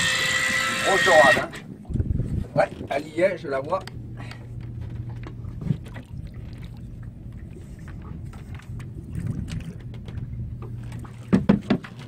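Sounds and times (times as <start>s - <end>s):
outboard motor idling: 0.0s - 12.0s
water sounds: 0.0s - 12.0s.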